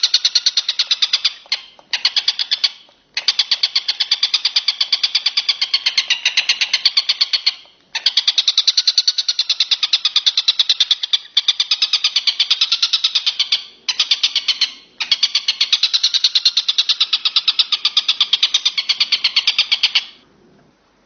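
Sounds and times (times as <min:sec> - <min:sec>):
insect calling in high-pitched pulses: 0:00.0 - 0:20.2.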